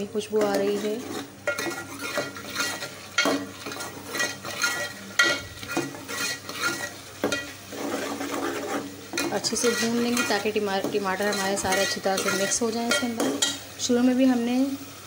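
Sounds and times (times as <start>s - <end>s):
meat sizzling: 0.0s - 15.0s
metal spoon scraping a pot: 0.3s - 13.7s.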